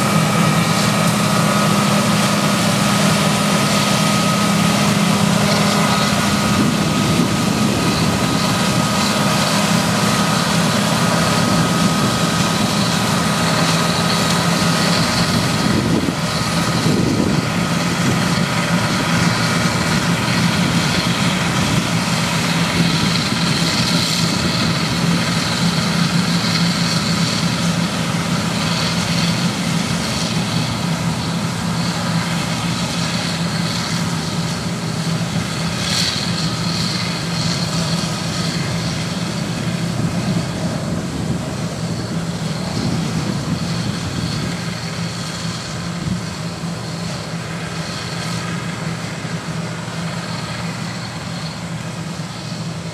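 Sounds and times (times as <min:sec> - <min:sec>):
combine harvester engine drone: 0:00.0 - 0:52.9
thin steady whine: 0:00.0 - 0:52.9
threshing machinery noise: 0:00.0 - 0:52.9.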